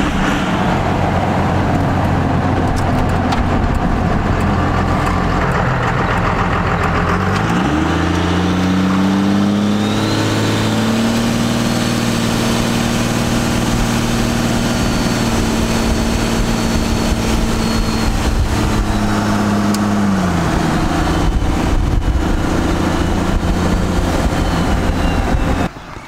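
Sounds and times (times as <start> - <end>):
engine hum: 0.0 - 26.0
road noise: 0.0 - 26.0.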